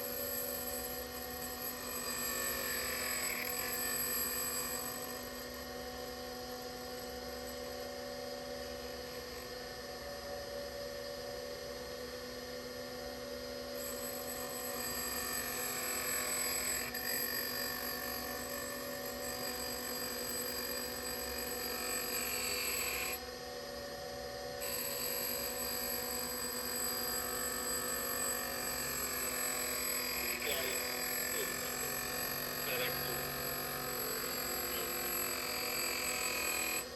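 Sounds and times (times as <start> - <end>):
grinder motor whine: 0.0 - 36.9.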